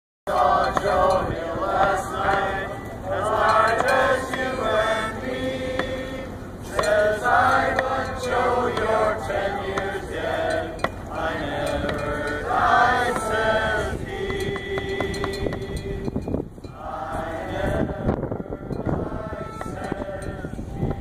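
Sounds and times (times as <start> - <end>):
group singing in unison: 0.3 - 21.0.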